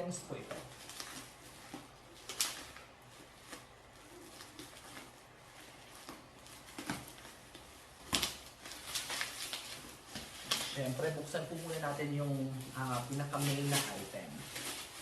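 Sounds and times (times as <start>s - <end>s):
packaging rustling: 0.0s - 15.0s.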